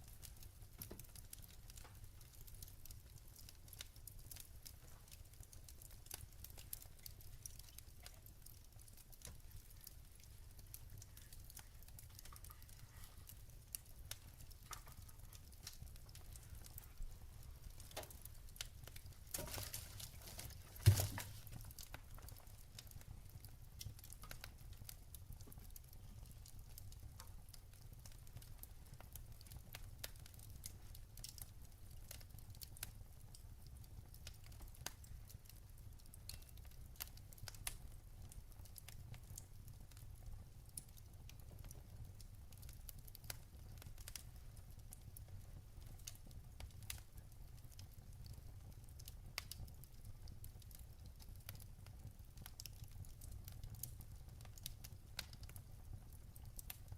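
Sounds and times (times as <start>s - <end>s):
log fire crackling: 0.0s - 56.9s.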